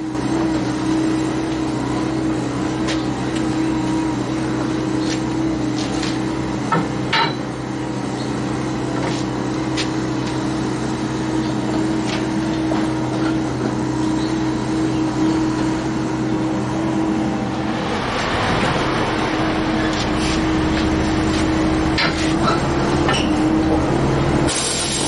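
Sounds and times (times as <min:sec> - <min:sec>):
engine motor hum: 0:00.0 - 0:25.0.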